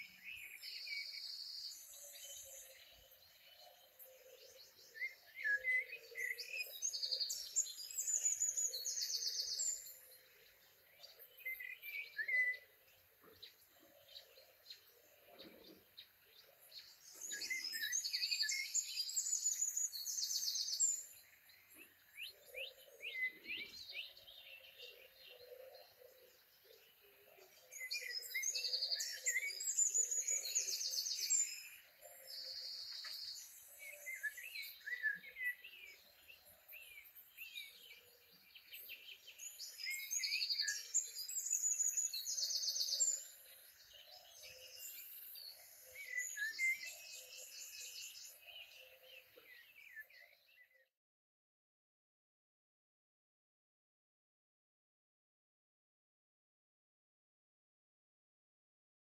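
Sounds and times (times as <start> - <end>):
bird singing high phrases: 0.0 - 51.0
faint bird chirps and calls: 0.0 - 51.0.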